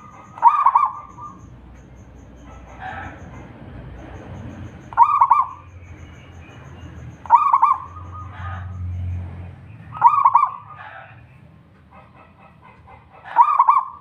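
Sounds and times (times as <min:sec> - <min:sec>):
dove cooing: 0:00.0 - 0:06.0, 0:06.6 - 0:08.9, 0:09.9 - 0:11.2, 0:12.0 - 0:14.0.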